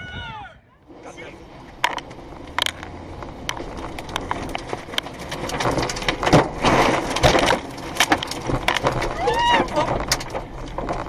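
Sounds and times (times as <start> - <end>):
rain and debris hitting a car: 0.9 - 11.0.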